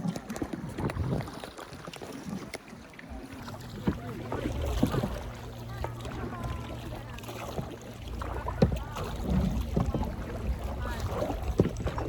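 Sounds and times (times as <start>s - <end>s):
wind rumble on microphone: 0.0s - 1.5s, 3.4s - 12.0s
paddle water noise: 0.0s - 12.0s.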